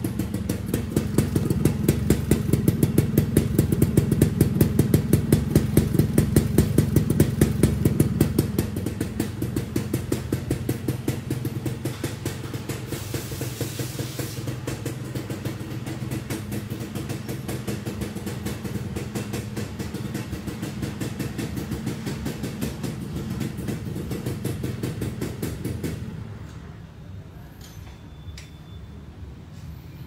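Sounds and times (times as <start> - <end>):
two-stroke motorcycle engine idling: 0.0 - 26.5.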